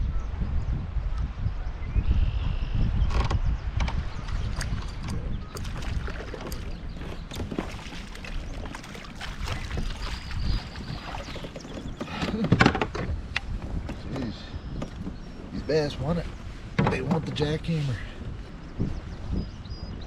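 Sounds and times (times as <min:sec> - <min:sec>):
wind rumble on microphone: 0:00.0 - 0:20.0
water against a hull: 0:03.2 - 0:19.4.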